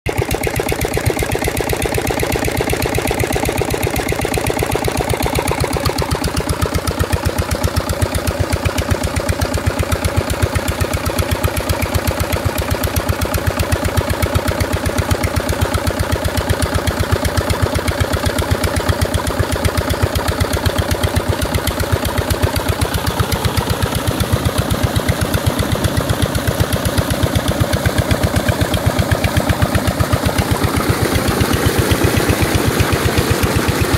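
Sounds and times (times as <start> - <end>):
diesel water pump engine running: 0.1 - 33.9.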